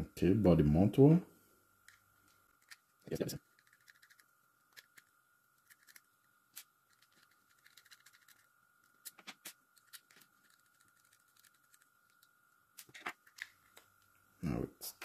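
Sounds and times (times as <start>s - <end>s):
small parts clicking and tapping: 1.8s - 14.1s.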